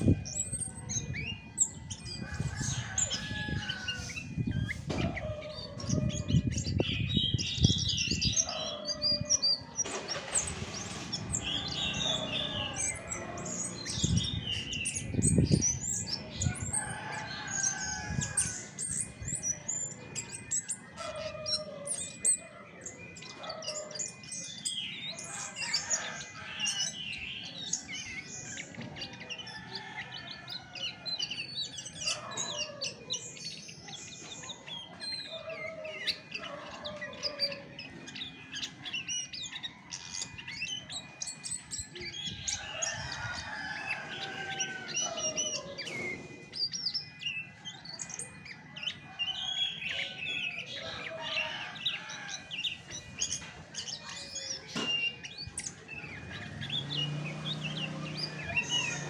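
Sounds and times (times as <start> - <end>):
thrush singing: 0.0 - 59.0.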